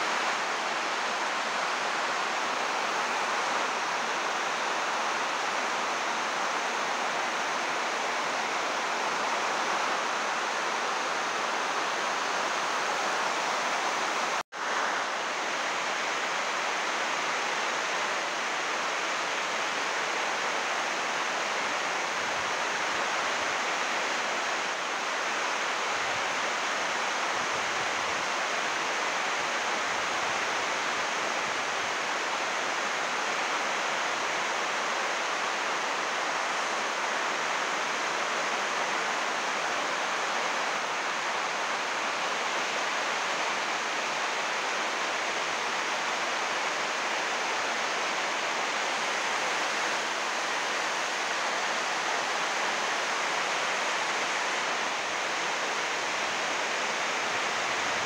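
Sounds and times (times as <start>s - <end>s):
heavy rain on plastic roof: 0.0s - 58.0s.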